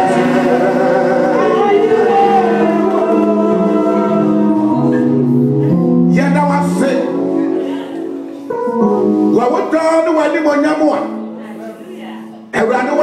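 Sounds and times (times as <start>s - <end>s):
church singing with accompaniment: 0.0s - 11.5s.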